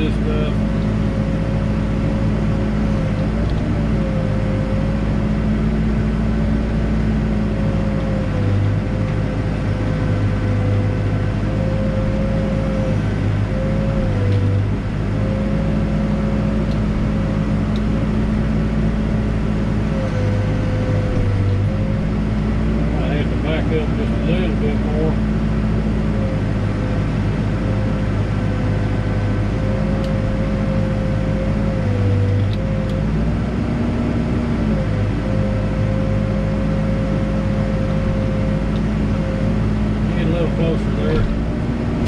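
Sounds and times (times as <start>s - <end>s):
backhoe diesel engine: 0.0s - 42.0s
hydraulic whine: 0.0s - 42.0s.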